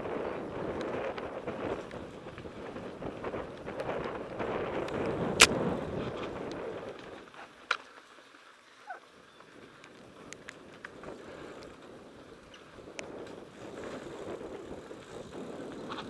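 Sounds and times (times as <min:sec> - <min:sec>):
bike tyres rolling and rattling: 0:00.0 - 0:16.0.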